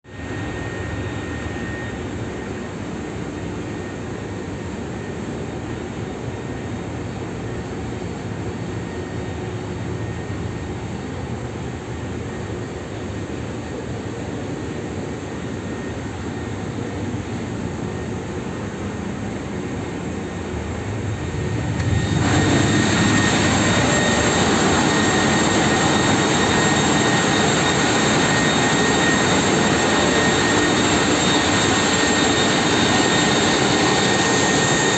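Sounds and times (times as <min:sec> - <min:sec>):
engine room machinery drone: 0:00.1 - 0:34.9
faint machinery whines: 0:00.1 - 0:34.9.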